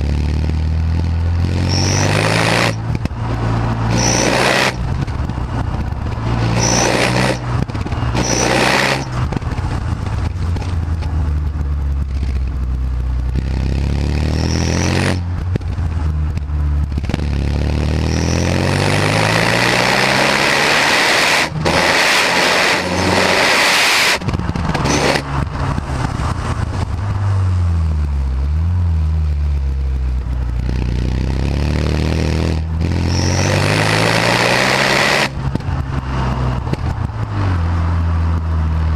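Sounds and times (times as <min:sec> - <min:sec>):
car engine revving through gears: 0:00.0 - 0:10.9, 0:13.3 - 0:15.3, 0:17.0 - 0:27.6, 0:30.6 - 0:38.5.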